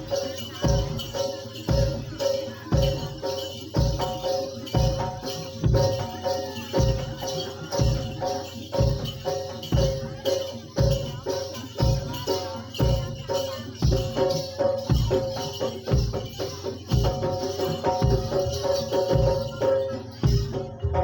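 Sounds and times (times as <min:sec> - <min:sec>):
high rattling jingle: 0:00.0 - 0:20.8.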